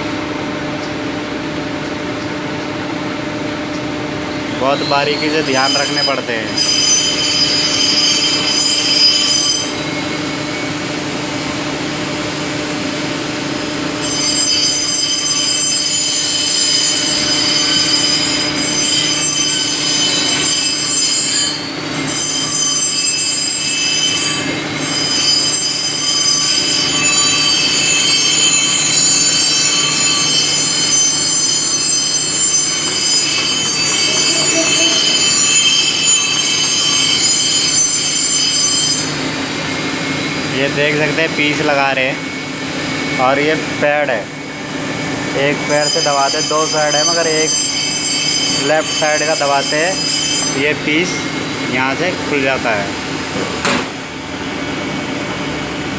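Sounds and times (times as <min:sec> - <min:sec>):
machines whining: 0:00.6 - 0:55.9.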